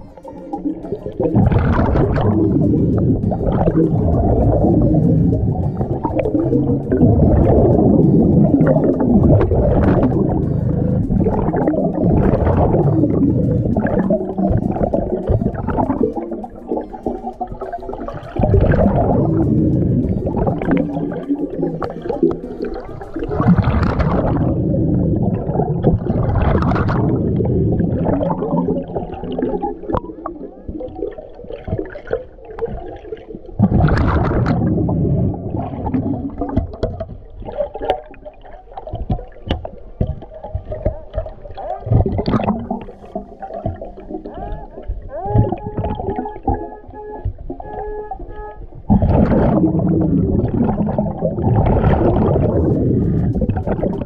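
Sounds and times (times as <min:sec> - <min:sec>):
diver exhaling bubbles underwater: 0:00.0 - 0:47.7, 0:48.8 - 0:54.0.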